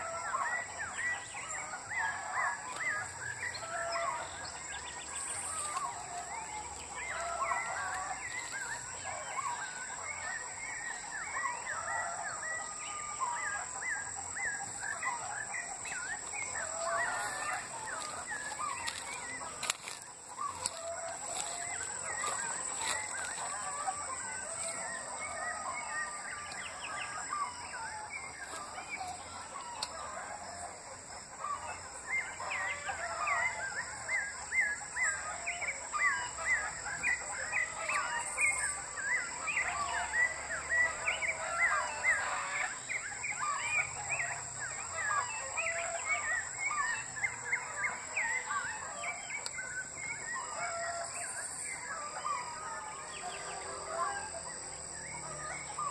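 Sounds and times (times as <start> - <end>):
birds calling: 0.0 - 55.9.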